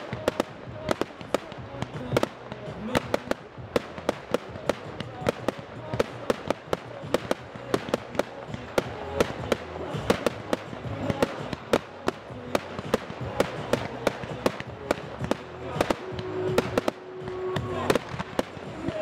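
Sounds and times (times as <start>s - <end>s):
fireworks cracking and banging: 0.0s - 19.0s
fireworks crackling: 0.0s - 19.0s.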